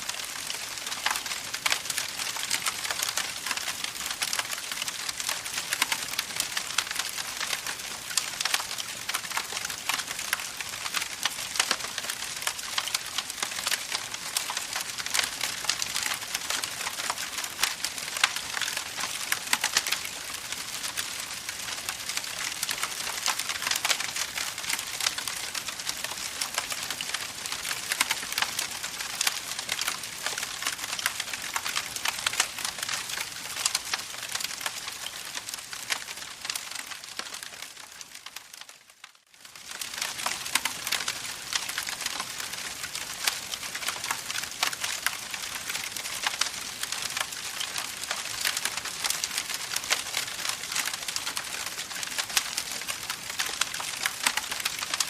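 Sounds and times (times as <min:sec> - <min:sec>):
campfire crackling: 0:00.0 - 0:38.7, 0:39.5 - 0:55.0.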